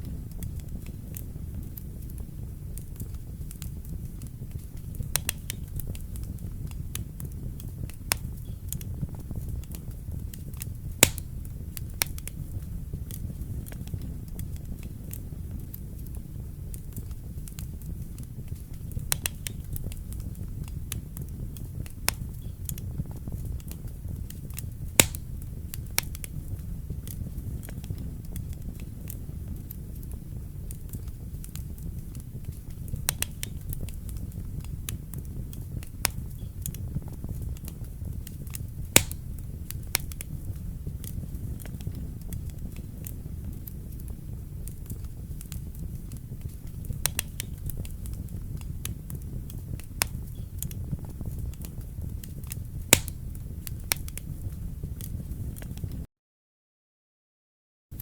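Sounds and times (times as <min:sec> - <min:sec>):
fire crackling and popping: 0:00.0 - 0:56.1
fire flames rumbling: 0:00.0 - 0:56.1.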